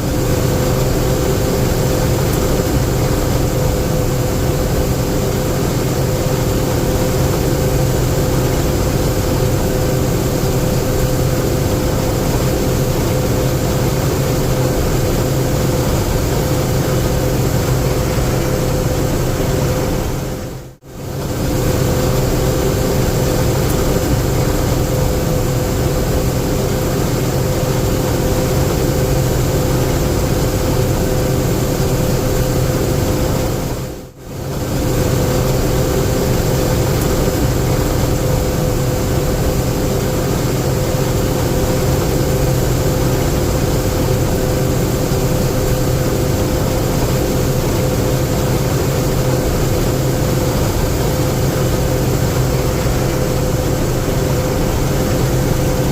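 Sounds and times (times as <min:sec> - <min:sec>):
steady machinery hum: 0:00.0 - 0:55.9.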